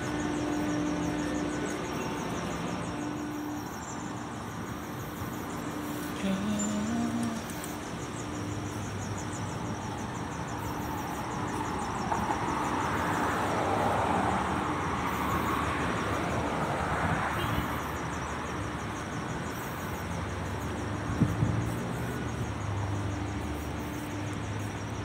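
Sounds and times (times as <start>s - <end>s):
car passing: 0.0s - 25.0s
road background hum: 0.0s - 25.0s.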